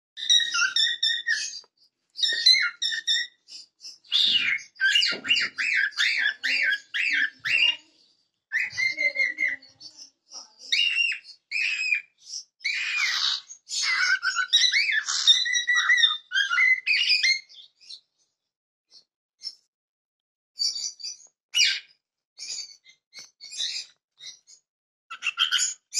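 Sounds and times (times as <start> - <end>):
cockatiel whistling and chirping: 0.2 - 7.8, 8.5 - 9.7, 10.7 - 18.0, 20.6 - 25.9.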